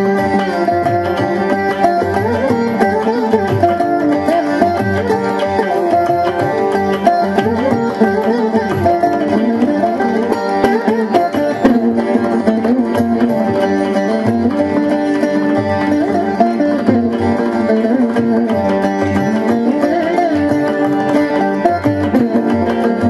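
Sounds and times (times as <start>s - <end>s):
percussion: 0.0s - 23.0s
veena melody: 0.0s - 23.0s.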